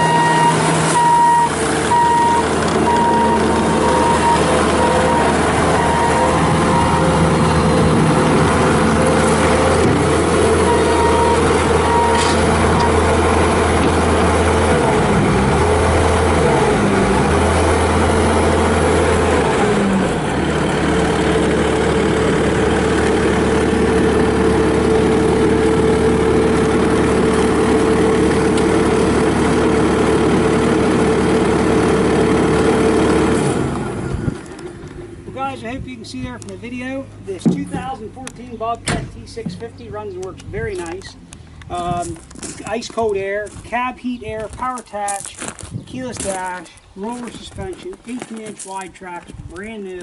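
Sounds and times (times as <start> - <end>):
engine shutting off: 0.0 - 42.8
diesel engine running: 0.0 - 50.0.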